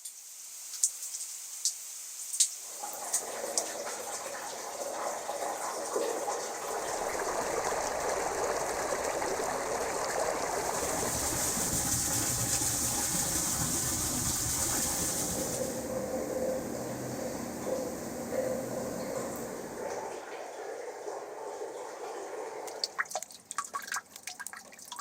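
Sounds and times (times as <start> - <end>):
water gushing through drain pipe: 2.6 - 25.0.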